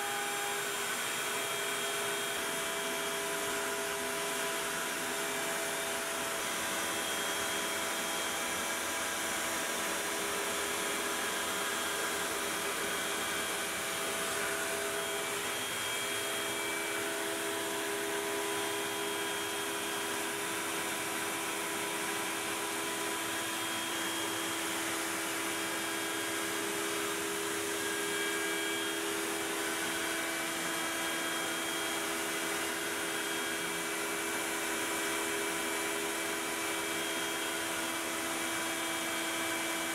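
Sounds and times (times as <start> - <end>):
dust vacuum running: 0.0 - 39.9
router spindle whining: 0.0 - 39.9.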